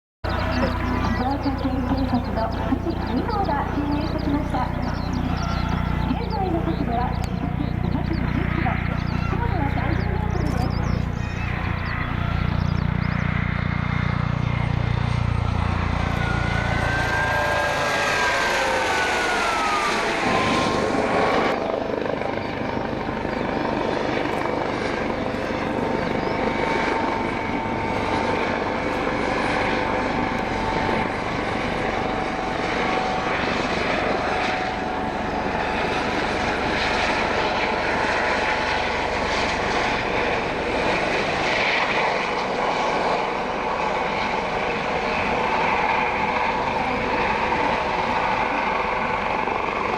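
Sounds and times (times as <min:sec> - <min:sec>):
helicopter engine whine: 0:00.2 - 0:49.9
helicopter rotor rumble: 0:00.2 - 0:49.9.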